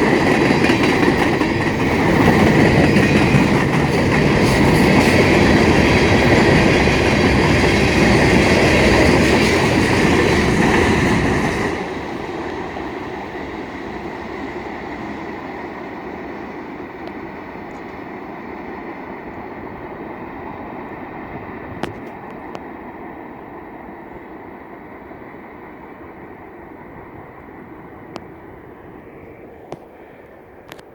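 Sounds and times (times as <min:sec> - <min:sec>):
freight train wheels rumbling: 0:00.0 - 0:30.9.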